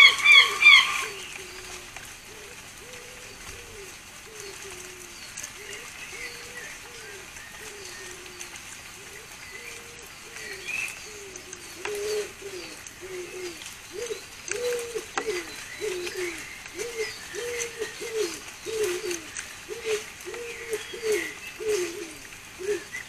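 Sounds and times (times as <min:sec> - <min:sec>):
pigeons cooing: 0:00.0 - 0:23.0
small birds chirping: 0:00.0 - 0:23.0.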